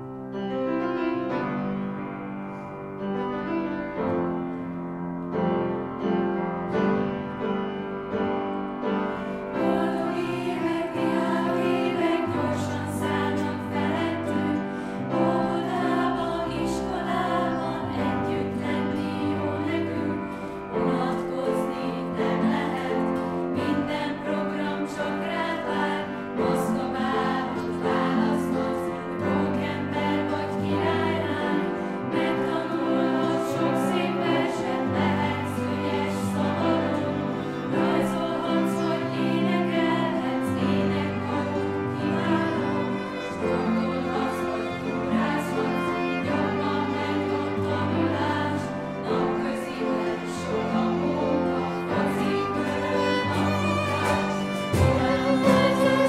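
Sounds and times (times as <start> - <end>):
piano: 0.0 - 56.0
acoustic guitars: 5.8 - 56.0
children's choir singing: 6.8 - 56.0.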